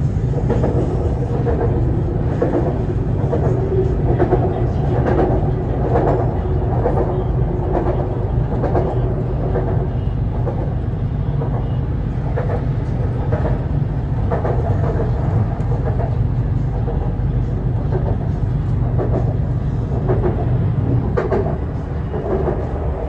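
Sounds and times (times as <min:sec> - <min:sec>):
electric train rumbling: 0:00.0 - 0:23.0
rail and wheel noise: 0:00.0 - 0:23.0.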